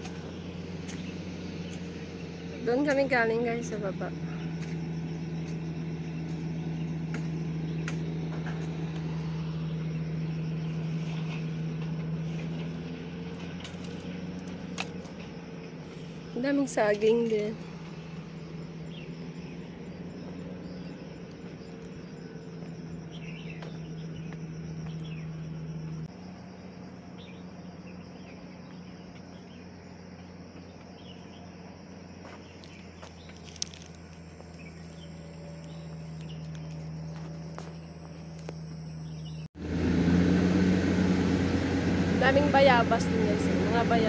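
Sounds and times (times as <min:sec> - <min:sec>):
faint wildlife chirps: 0:00.0 - 0:39.5
steady low hum: 0:00.0 - 0:44.0.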